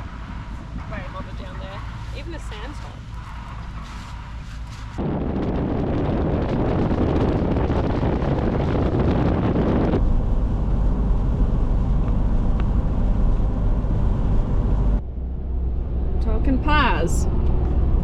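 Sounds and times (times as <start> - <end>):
vehicle road and engine noise: 0.0 - 18.0
wind buffeting microphone: 0.0 - 18.0.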